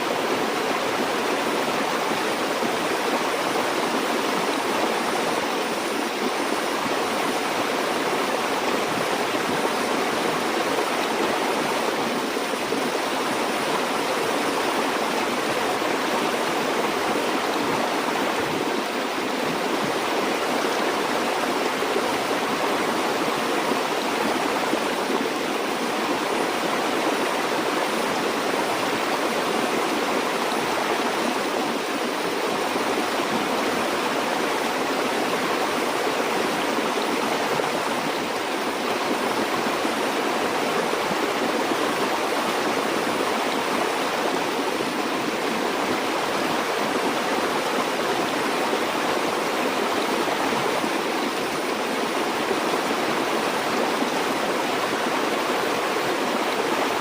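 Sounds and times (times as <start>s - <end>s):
stream water flowing over rocks: 0.0s - 57.0s.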